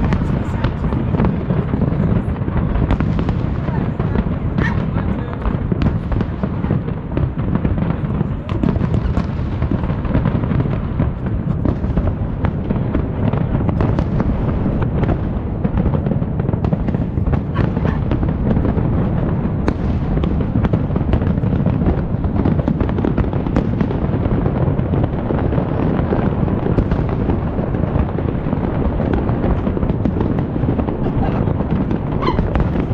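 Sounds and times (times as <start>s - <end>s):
fireworks exploding: 0.0s - 32.9s.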